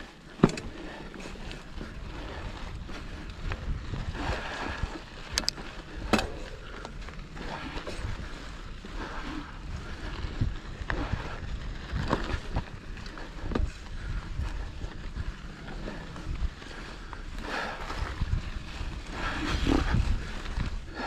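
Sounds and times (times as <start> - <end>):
bike rattling over rocks: 0.0 - 21.0
bike tyres rumbling on dirt trail: 0.0 - 21.0
wind buffeting microphone: 0.0 - 21.0.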